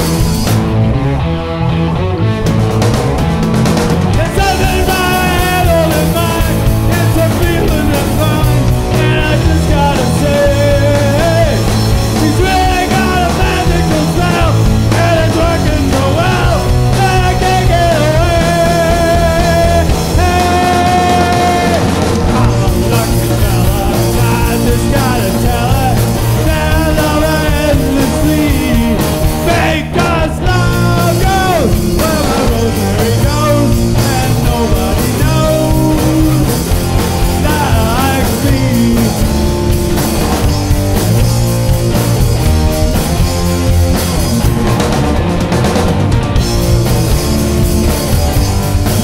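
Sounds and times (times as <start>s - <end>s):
rock band playing: 0.0s - 49.0s.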